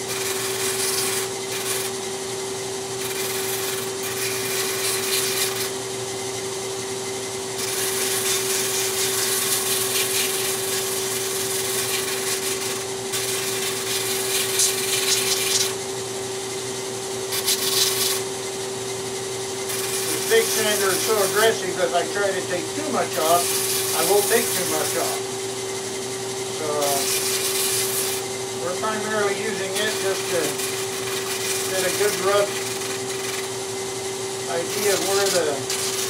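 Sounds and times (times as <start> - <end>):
gritty wood sanding: 0.0 - 2.2, 2.8 - 5.8, 7.5 - 15.8, 17.3 - 18.4, 19.6 - 36.0
sanding drum motor hum: 0.0 - 36.0.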